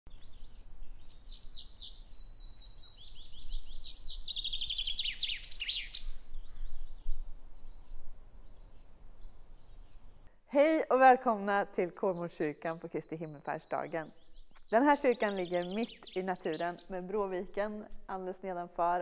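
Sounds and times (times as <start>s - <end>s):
songbirds singing: 0.1s - 10.3s, 11.8s - 19.0s.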